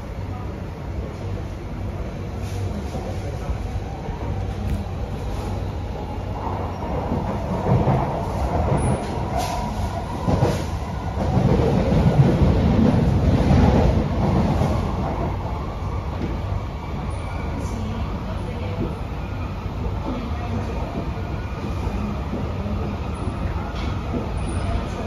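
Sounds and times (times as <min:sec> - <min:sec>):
train wheels rumbling: 0:02.2 - 0:25.0.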